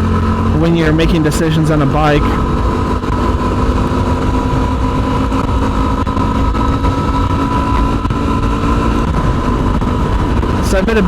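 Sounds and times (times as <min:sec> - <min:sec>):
motorcycle engine cruising: 0:00.0 - 0:11.0
road rumble: 0:00.0 - 0:11.0
wind noise: 0:00.0 - 0:11.0.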